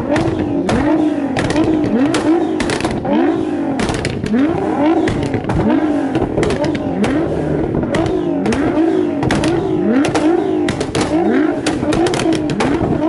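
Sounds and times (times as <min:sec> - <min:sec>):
car engine rev blips: 0:00.0 - 0:13.0
exhaust cracks: 0:00.0 - 0:13.0.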